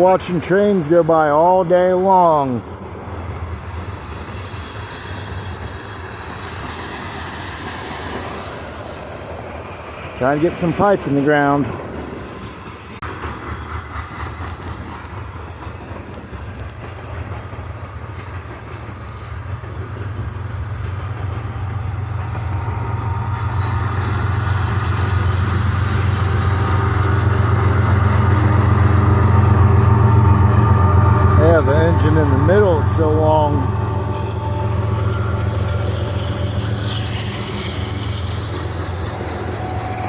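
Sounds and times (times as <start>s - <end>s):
diesel locomotive engine hum: 0.0s - 40.0s
freight train rolling on rails: 0.0s - 40.0s.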